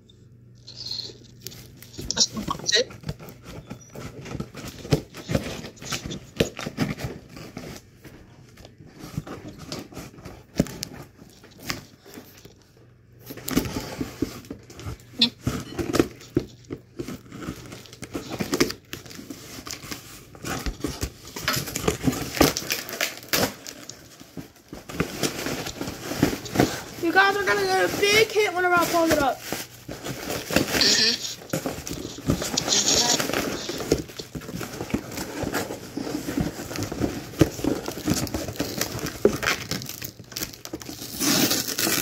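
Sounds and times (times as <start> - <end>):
cardboard box crinkling and tearing: 0.7 - 7.9, 13.2 - 42.0.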